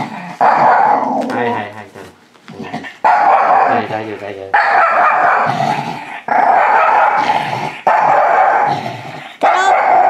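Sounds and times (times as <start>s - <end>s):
dog giving long rough cries: 0.0s - 1.8s, 2.5s - 10.0s.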